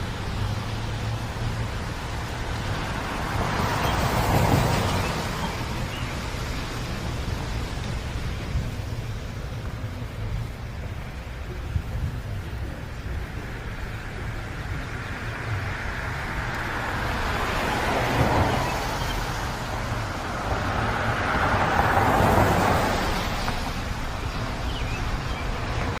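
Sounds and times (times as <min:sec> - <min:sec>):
traffic rumble: 0:00.0 - 0:26.0
vehicles passing: 0:00.0 - 0:26.0.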